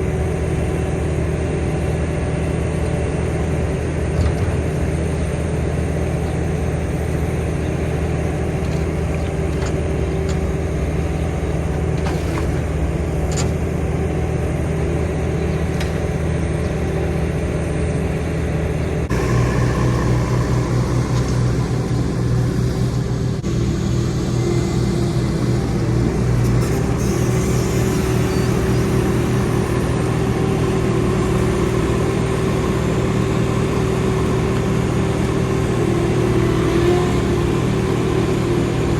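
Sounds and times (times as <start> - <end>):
road rumble: 0.0 - 38.9
vehicle engine running: 0.0 - 38.9.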